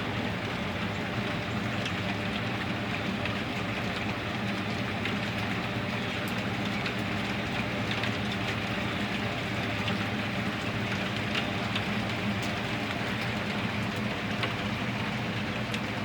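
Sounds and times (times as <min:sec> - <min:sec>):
constant low hum: 0:00.0 - 0:16.0
steady rain: 0:00.0 - 0:16.0.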